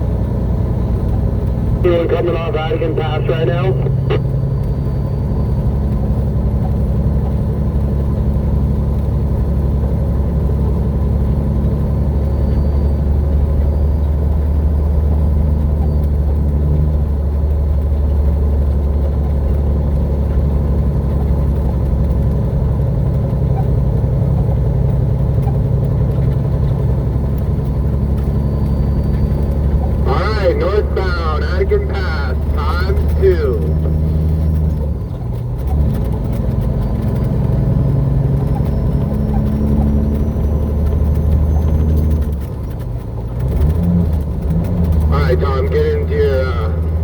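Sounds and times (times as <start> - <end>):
truck diesel engine droning: 0.0 - 47.0.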